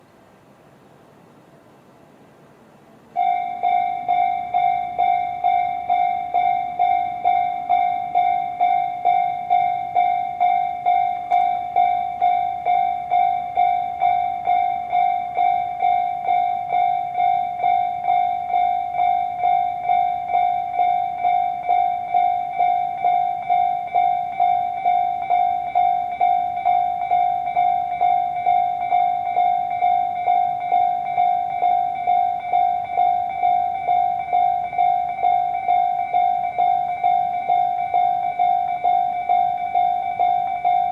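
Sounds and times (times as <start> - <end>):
level crossing warning bells: 3.1 - 40.9.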